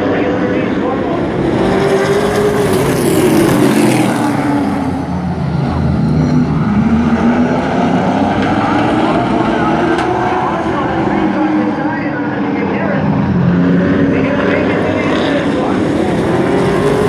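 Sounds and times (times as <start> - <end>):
race truck engines passing: 0.0 - 17.0.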